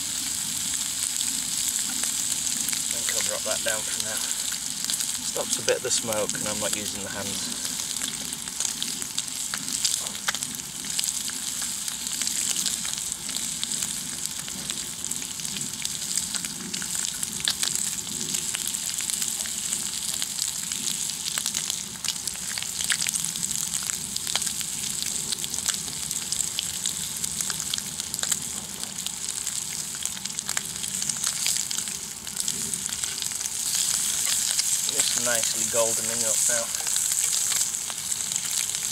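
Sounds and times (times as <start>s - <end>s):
bacon sizzling with pops: 0.0s - 38.9s.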